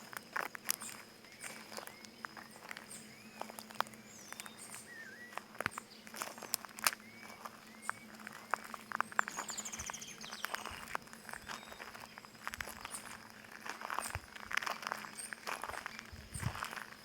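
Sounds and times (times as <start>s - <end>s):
footsteps crunching on stones: 0.0s - 17.0s
small birds chirping: 0.0s - 17.0s.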